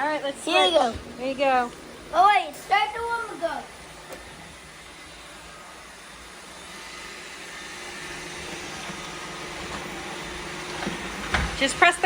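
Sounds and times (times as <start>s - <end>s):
robot vacuums running: 0.0s - 12.0s.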